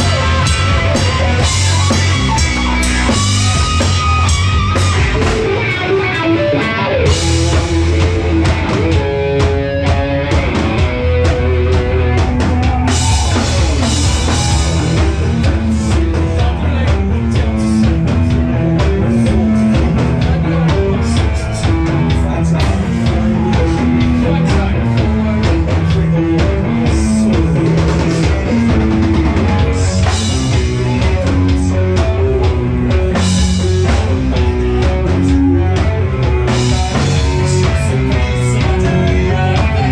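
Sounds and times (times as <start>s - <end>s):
distorted electric guitar: 0.0s - 39.9s
drum kit beat: 0.0s - 39.9s.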